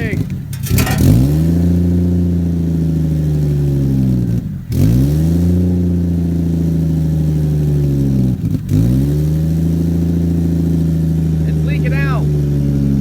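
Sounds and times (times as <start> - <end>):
loud car engine exhaust: 0.0 - 13.0.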